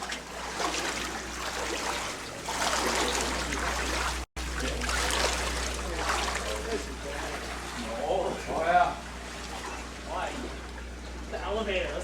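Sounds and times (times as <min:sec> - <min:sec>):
people wading through water: 0:00.0 - 0:12.0.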